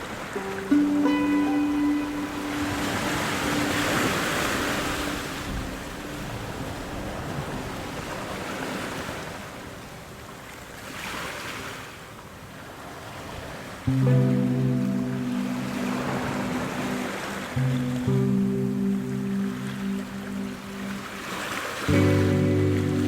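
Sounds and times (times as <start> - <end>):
ocean waves breaking on shore: 0.0 - 23.0.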